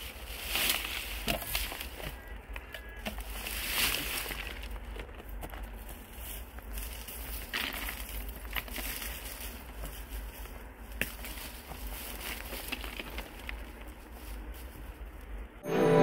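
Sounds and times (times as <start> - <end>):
dry grass rustling and crackling: 0.0 - 15.6.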